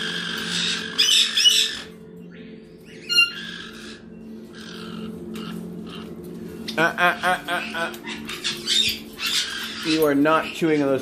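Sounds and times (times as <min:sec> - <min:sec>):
parrots squawking: 0:00.0 - 0:02.0, 0:02.8 - 0:11.0.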